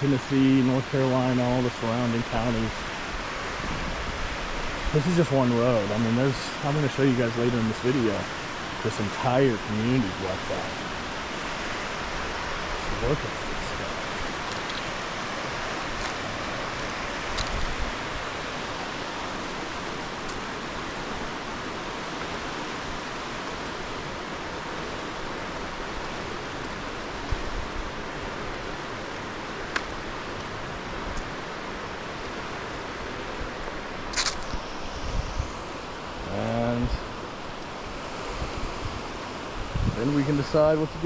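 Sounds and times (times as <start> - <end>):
flowing water rushing: 0.0 - 41.0.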